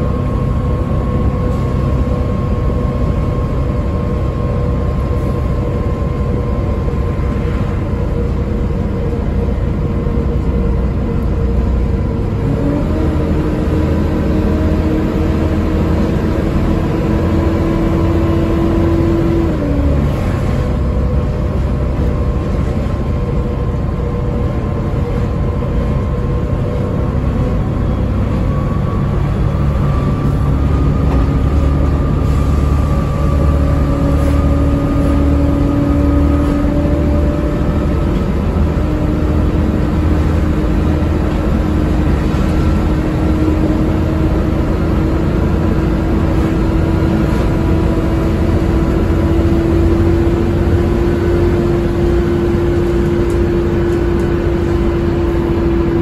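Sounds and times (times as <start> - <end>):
bus diesel engine rumble and whine: 0.0 - 56.0.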